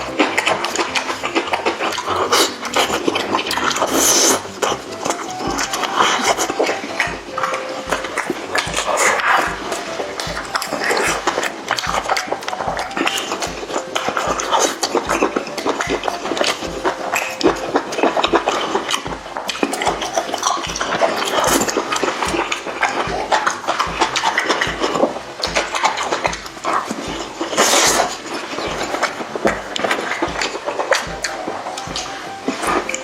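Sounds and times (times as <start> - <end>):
wet chewing and crunching: 0.0 - 33.0.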